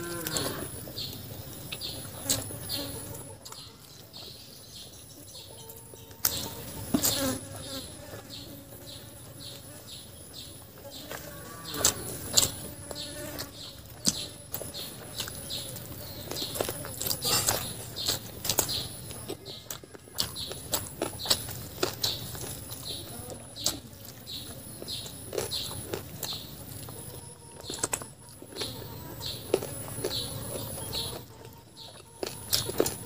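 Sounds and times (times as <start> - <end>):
chewing and lip-smacking: 0.2 - 4.9, 11.1 - 33.0.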